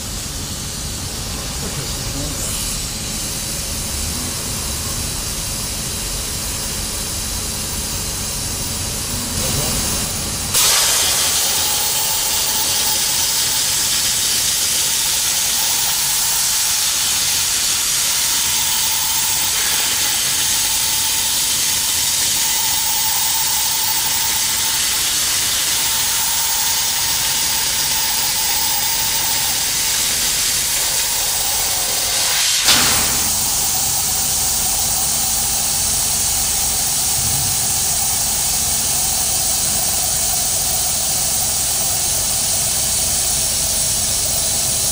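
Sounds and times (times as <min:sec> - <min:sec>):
cutting torch hissing: 0:00.5 - 0:04.4, 0:08.7 - 0:44.9.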